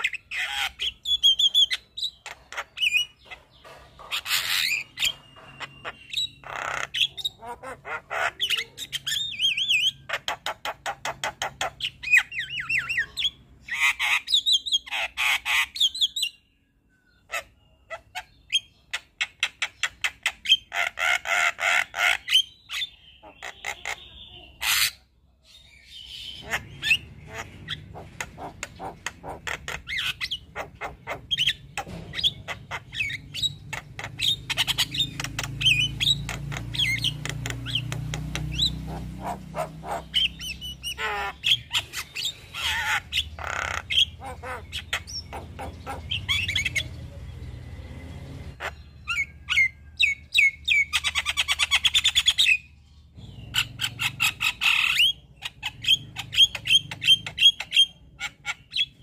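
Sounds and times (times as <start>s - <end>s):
bird singing chattering song: 0.0s - 59.0s.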